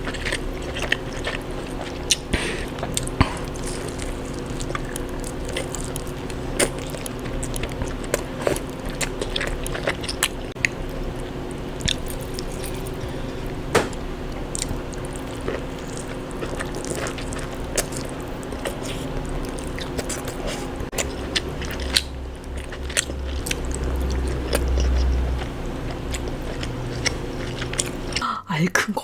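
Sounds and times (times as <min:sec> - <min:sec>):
chewing and crunching seafood: 0:00.0 - 0:13.6, 0:14.2 - 0:28.2
low rumble: 0:02.2 - 0:28.2.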